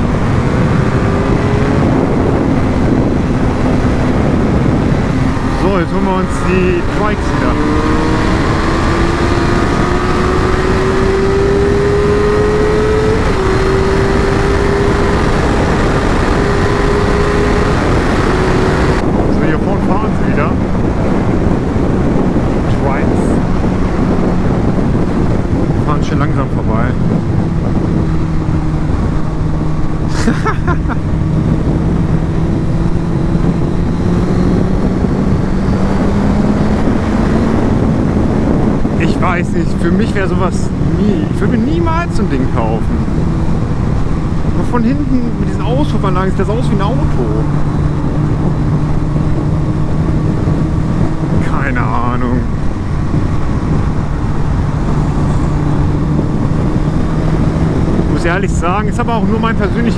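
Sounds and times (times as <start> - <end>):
motorcycle engine pulling hard: 0.0 - 59.9
wind rush on microphone: 0.0 - 59.9.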